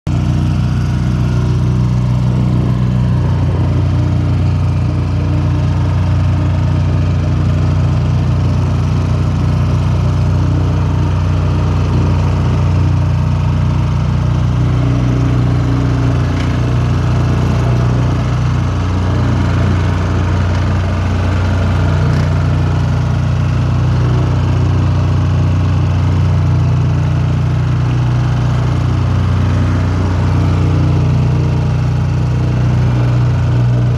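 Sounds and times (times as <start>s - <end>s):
vibratory plate compactor running: 0.1s - 33.9s.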